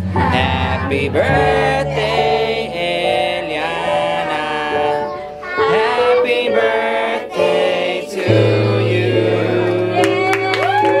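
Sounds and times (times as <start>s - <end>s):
music with singing: 0.0s - 11.0s.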